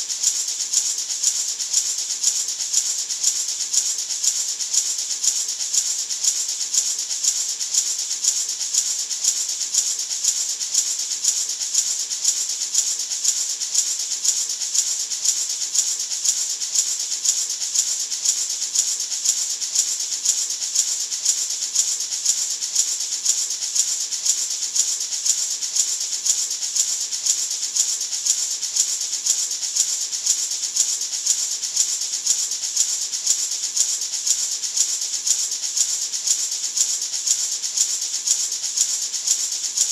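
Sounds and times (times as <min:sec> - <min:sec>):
maraca rattling: 0:00.0 - 0:39.9.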